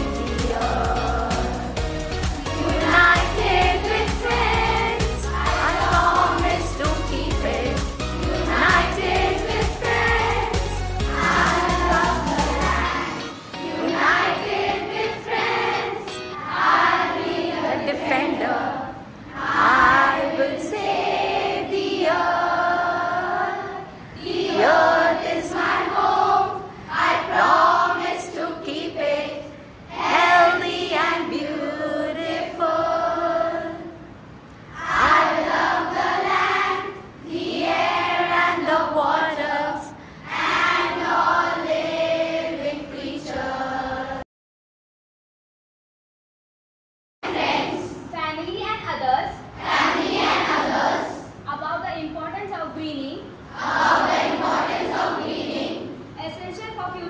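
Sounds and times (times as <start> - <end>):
girls' choir singing: 0.0 - 34.1, 34.7 - 44.2, 47.2 - 48.0, 49.6 - 51.4, 53.5 - 56.1.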